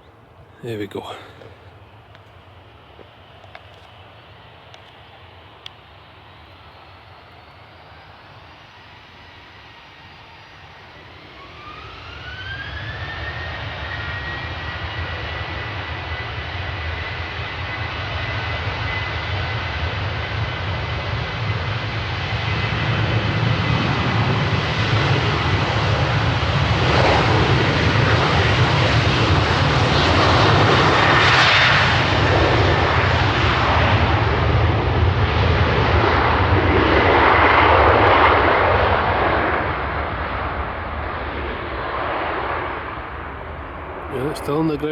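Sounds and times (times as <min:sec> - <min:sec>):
jet engine rumble: 0:00.0 - 0:44.9
jet engine whine: 0:00.0 - 0:44.9.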